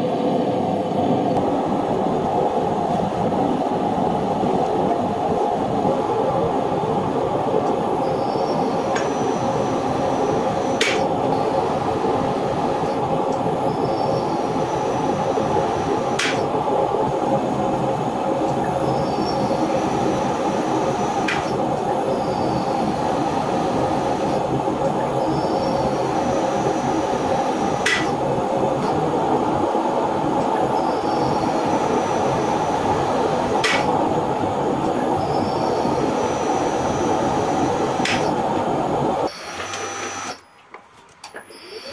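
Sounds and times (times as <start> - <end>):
roller machine running: 0.0 - 41.9.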